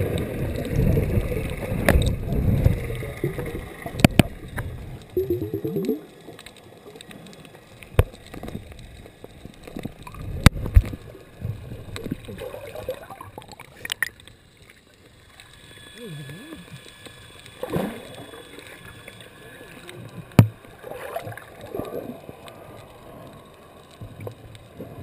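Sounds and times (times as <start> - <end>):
muffled underwater noise: 0.0 - 25.0.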